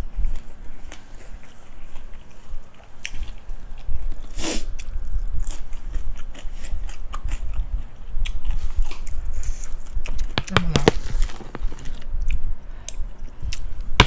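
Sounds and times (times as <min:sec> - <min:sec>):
person chewing crunchy food: 0:00.0 - 0:13.8.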